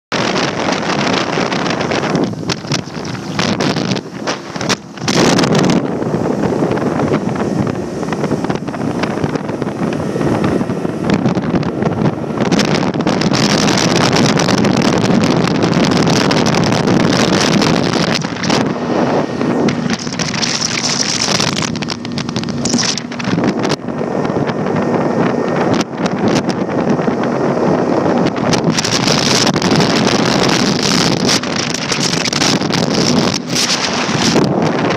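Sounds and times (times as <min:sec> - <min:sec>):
motorboat running: 0:00.1 - 0:34.9
wind buffeting microphone: 0:00.1 - 0:34.9.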